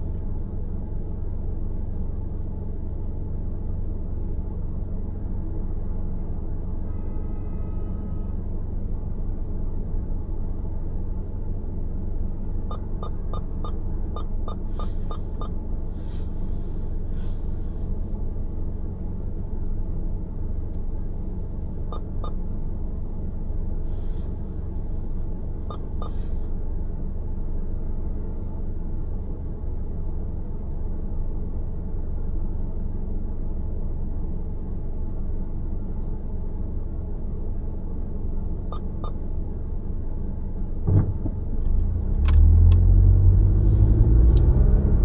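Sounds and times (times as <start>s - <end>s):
car driving low rumble: 0.0s - 45.0s.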